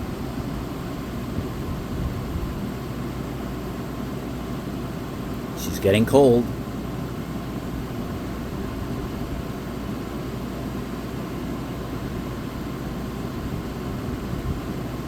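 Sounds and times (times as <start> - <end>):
air conditioner running: 0.0 - 15.0.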